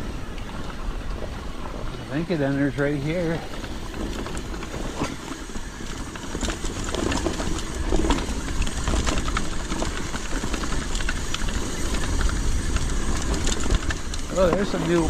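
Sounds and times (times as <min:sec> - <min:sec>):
tyres on dirt and rocks: 0:00.0 - 0:15.0
wind rumbling on microphone: 0:00.0 - 0:15.0
bike chain and frame clattering: 0:00.1 - 0:15.0.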